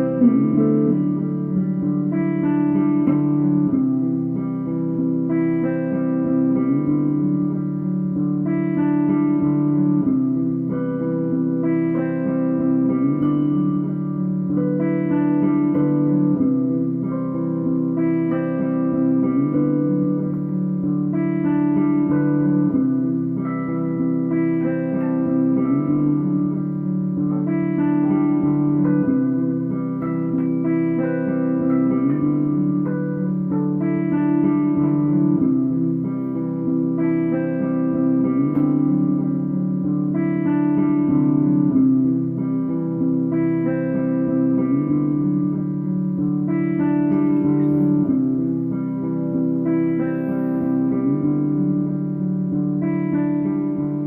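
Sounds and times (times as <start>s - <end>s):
plucked guitar: 0.0s - 54.0s.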